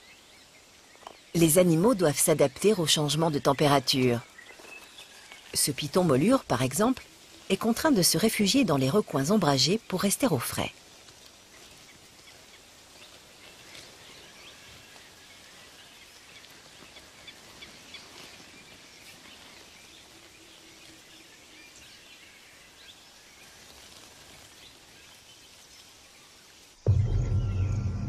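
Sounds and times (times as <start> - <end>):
steady hiss: 0.0 - 26.9.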